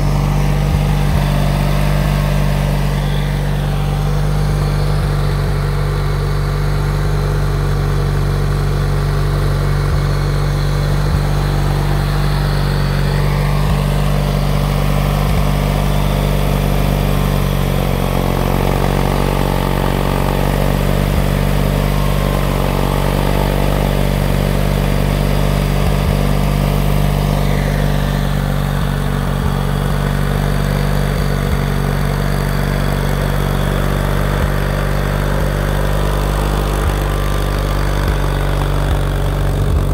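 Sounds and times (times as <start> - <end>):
high steady whine: 0.0 - 39.9
tractor engine idling: 0.0 - 39.9.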